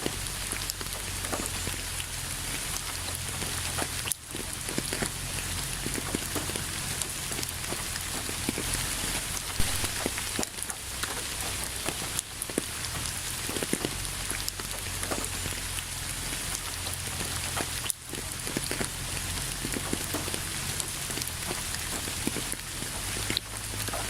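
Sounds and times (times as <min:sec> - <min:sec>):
rain falling on a surface: 0:00.0 - 0:24.0.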